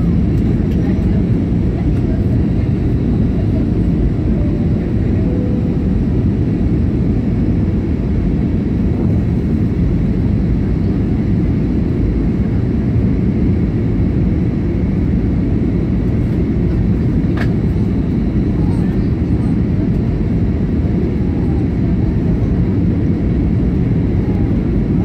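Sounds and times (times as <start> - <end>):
airliner cabin roar: 0.0 - 25.0.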